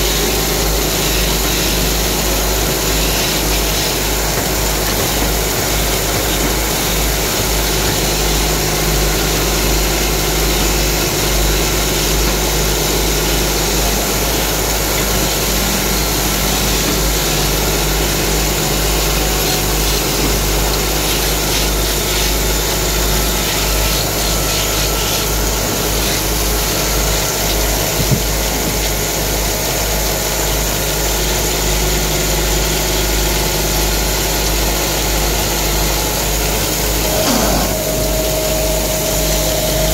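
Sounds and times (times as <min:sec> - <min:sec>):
wood lathe running: 0:00.0 - 0:39.9.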